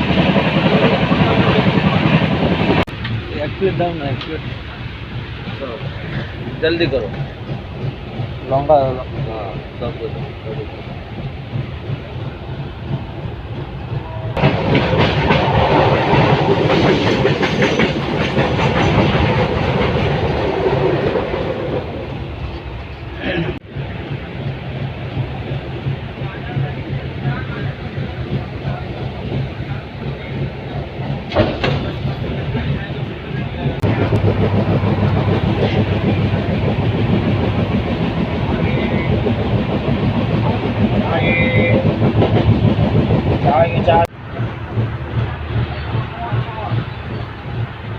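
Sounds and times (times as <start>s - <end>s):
wheels clattering over rail joints: 0.0s - 23.6s, 25.2s - 47.9s
train running rumble: 0.0s - 47.9s.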